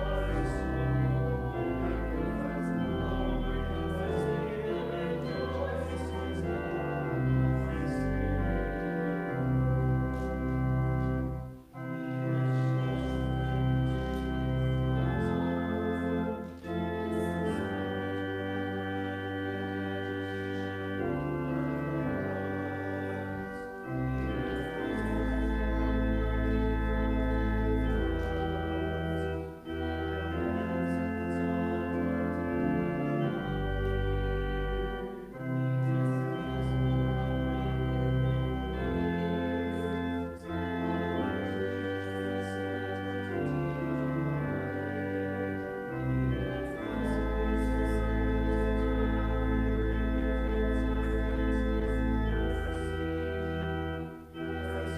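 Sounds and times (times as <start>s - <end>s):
organ playing slow chords: 0.0s - 54.9s.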